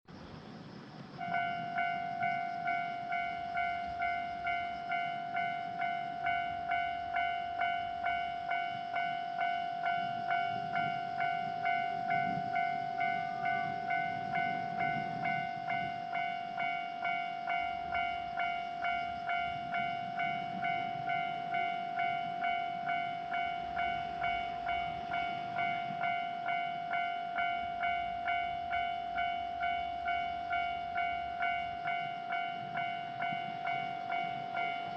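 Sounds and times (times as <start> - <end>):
level-crossing alarm ringing: 1.0 - 34.9.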